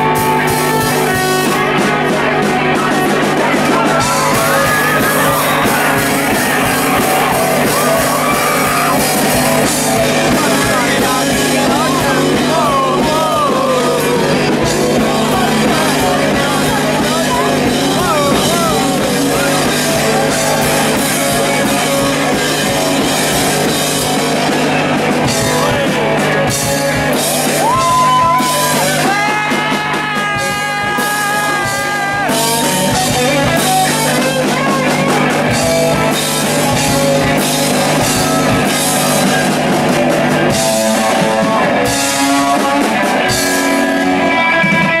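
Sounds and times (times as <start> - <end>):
guitar long held notes: 0.0 - 45.0
live rock band playing: 0.0 - 45.0.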